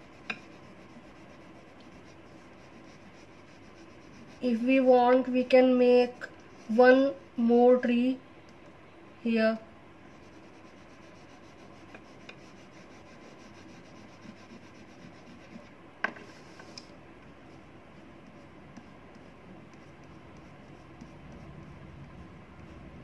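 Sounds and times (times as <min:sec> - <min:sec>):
crayon scratching on paper: 0:00.0 - 0:06.9, 0:10.1 - 0:15.7, 0:16.3 - 0:22.9.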